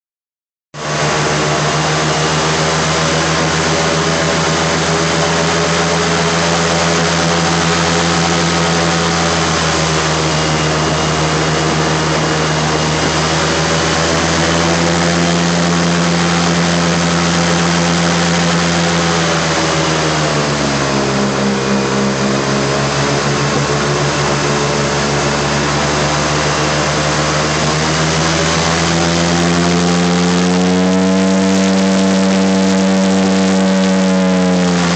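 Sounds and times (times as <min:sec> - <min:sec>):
airboat engine and propeller: 0:00.8 - 0:34.9.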